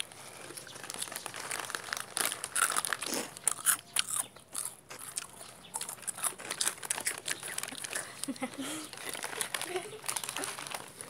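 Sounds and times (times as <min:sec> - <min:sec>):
crunchy chewing of food: 0:00.0 - 0:11.0.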